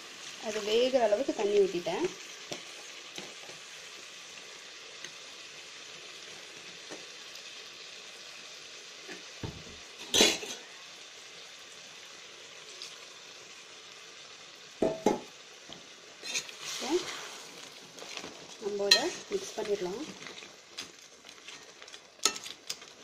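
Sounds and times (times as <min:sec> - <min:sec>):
gravy sizzling in a pan: 0:00.0 - 0:23.0.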